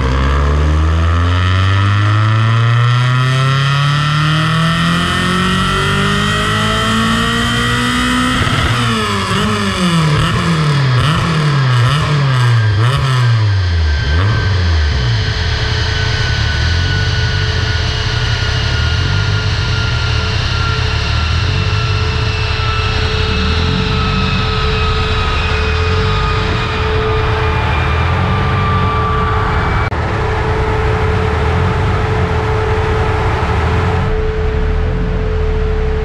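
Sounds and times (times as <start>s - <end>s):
engine and dyno rumbling: 0.0s - 36.0s
steady high whine: 0.0s - 36.0s
whining tones sliding down: 0.0s - 36.0s.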